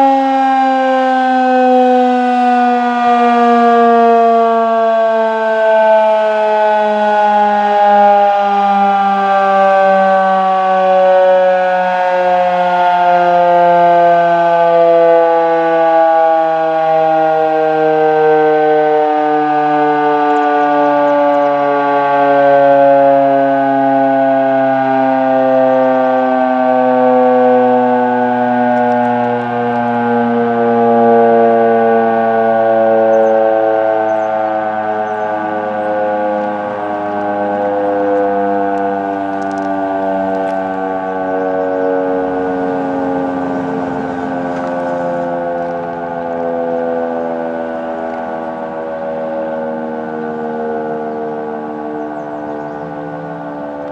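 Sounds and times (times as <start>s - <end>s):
outdoor warning siren falling in pitch: 0.0s - 53.9s.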